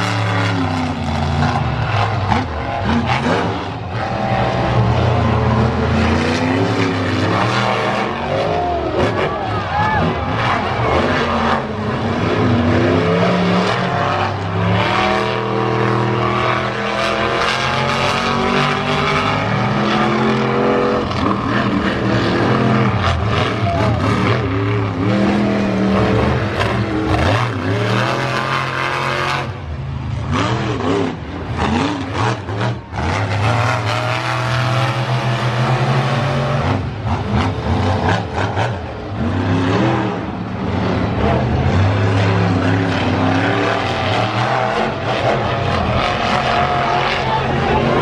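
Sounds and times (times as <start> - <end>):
truck engine revving hard: 0.0 - 48.0.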